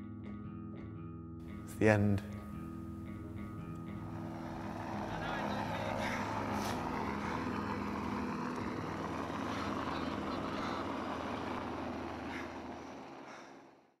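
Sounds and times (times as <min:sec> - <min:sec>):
engine-like low drone: 0:01.4 - 0:14.0.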